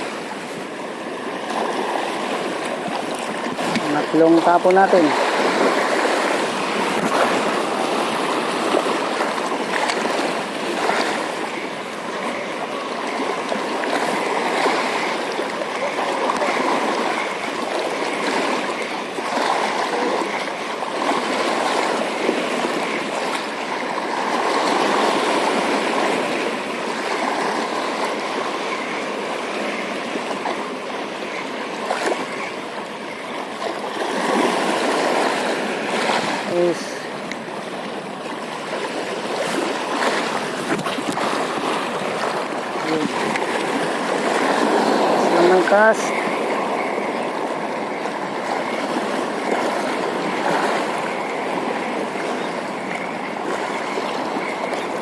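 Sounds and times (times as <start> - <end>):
sea water splashing on rocks: 0.0 - 28.5, 33.5 - 55.0.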